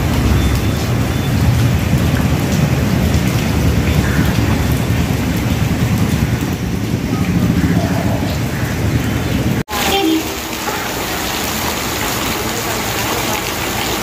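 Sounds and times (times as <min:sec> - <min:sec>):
rain falling on floodwater: 0:00.0 - 0:14.0.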